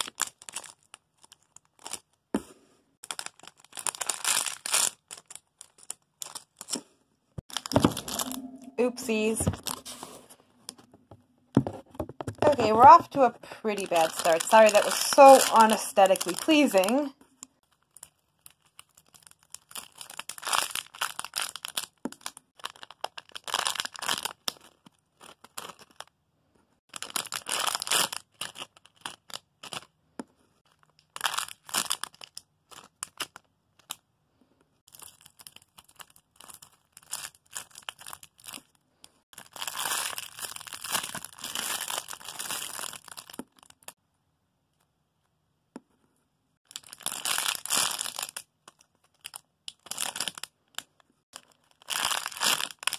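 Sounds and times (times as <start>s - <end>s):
plastic crinkling: 0.0s - 2.2s, 3.0s - 6.8s, 7.4s - 10.9s, 12.4s - 26.1s, 26.9s - 29.9s, 30.7s - 34.0s, 34.9s - 44.0s, 46.7s - 52.9s.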